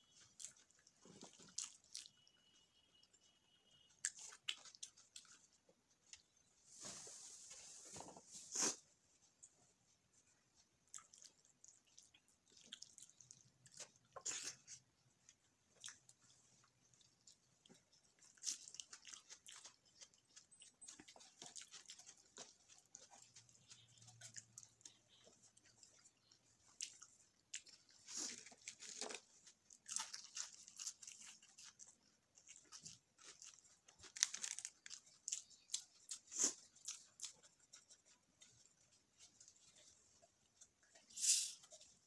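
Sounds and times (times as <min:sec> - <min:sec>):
chewing with crisp crunches: 0:00.0 - 0:06.6, 0:08.5 - 0:42.0.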